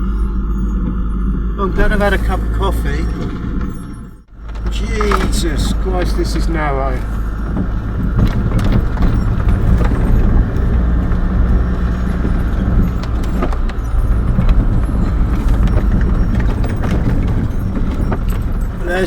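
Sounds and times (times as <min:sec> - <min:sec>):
light rattles and clicks: 0:00.0 - 0:19.0
tyre and road rumble: 0:00.0 - 0:19.0
van engine running at low speed: 0:00.0 - 0:19.0.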